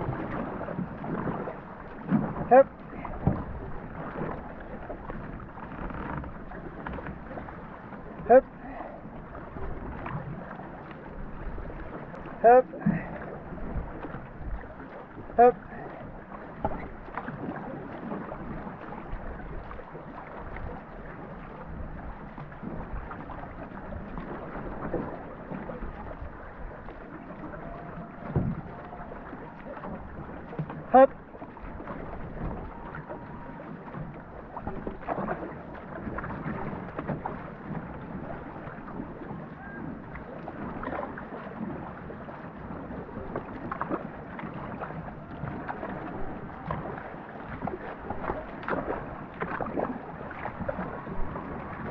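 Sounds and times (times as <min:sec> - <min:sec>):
paddle strokes in water: 0:00.0 - 0:51.9
water washing along hull: 0:00.0 - 0:51.9.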